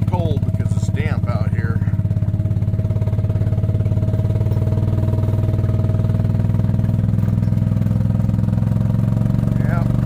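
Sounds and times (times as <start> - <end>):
small engine running steadily: 0.0 - 10.0.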